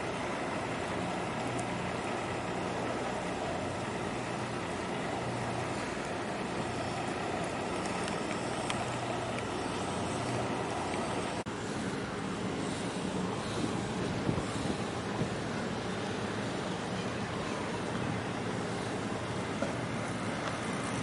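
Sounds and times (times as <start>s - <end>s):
choppy water washing: 0.0s - 21.0s
low engine hum: 0.0s - 21.0s
wind: 0.0s - 21.0s.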